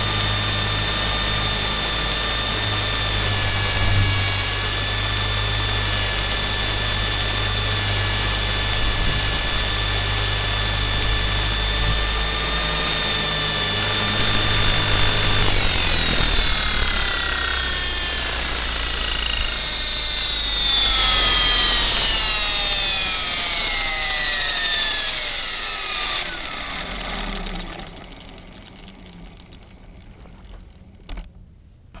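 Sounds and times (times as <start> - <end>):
model helicopter motor whining: 0.0 - 31.2.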